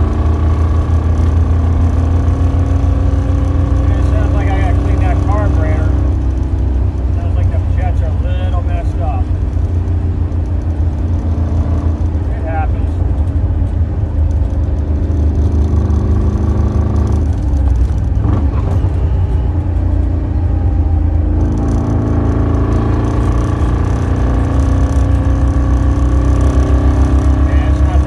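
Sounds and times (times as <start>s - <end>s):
car engine and exhaust running: 0.0s - 28.0s.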